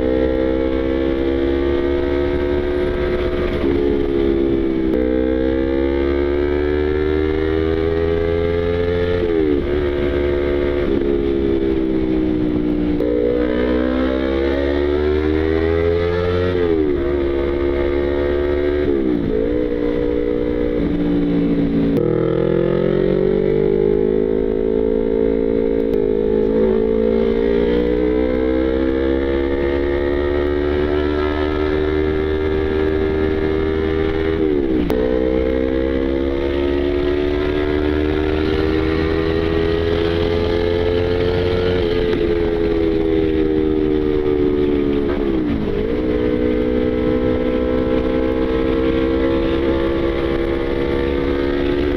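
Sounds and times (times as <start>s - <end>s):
motorcycle engine revving high: 0.0s - 51.9s.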